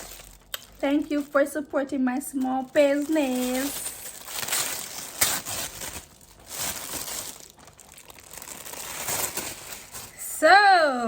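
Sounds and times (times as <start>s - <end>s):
packaging crinkling and rustling: 0.0s - 10.5s
sharp crackle of packaging: 0.0s - 10.5s.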